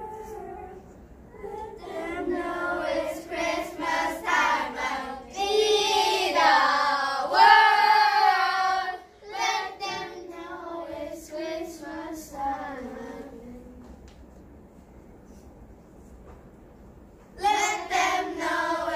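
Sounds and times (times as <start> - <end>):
children singing without words: 0.0 - 14.0, 17.4 - 18.9.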